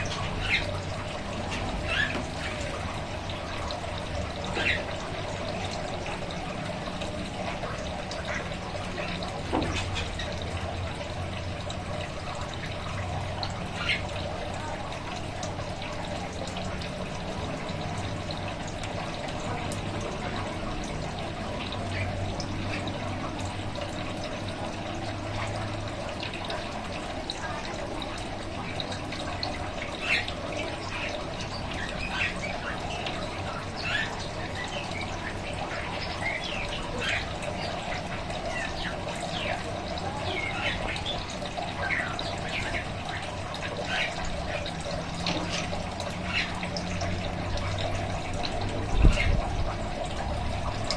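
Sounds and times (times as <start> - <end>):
water trickling: 0.0 - 50.9.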